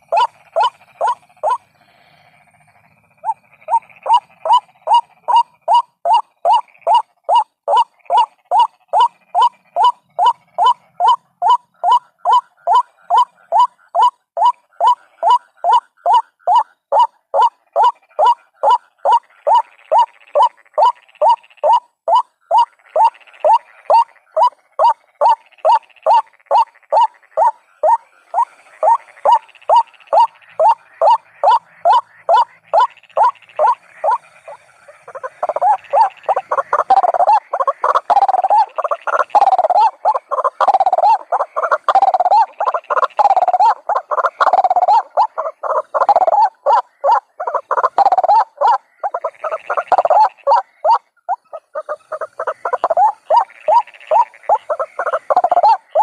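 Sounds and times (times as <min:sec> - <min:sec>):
waterhen croaking calls: 0:00.0 - 0:56.0.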